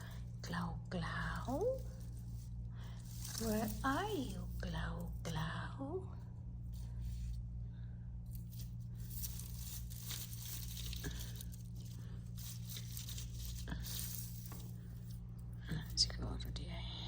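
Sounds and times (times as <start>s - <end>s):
rustling and crinkling: 0.0s - 5.4s, 6.4s - 7.5s, 8.3s - 16.7s
steady low hum: 0.0s - 17.0s.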